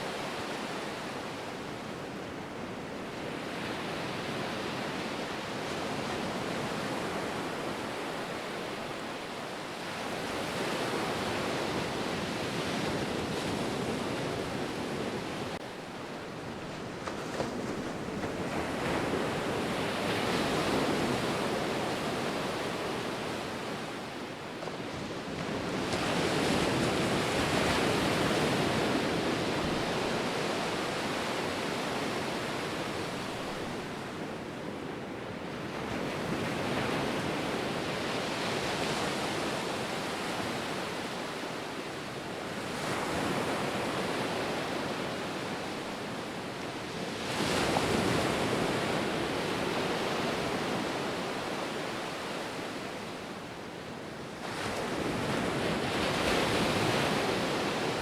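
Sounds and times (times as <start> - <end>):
waves breaking and washing in: 0.0 - 58.0.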